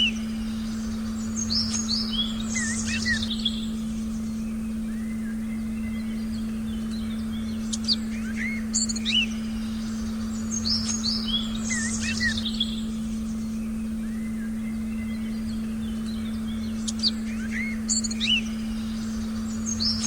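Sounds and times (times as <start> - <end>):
birds chirping: 0.0 - 20.0
low meditation tone: 0.0 - 20.0.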